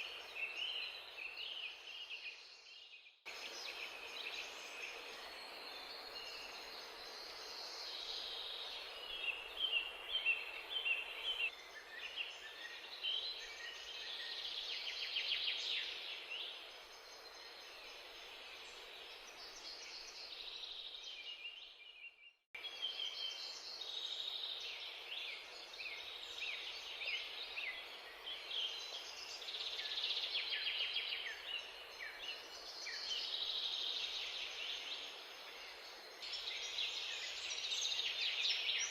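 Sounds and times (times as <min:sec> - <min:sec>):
steady background hiss: 0:00.0 - 0:21.6, 0:22.6 - 0:38.9.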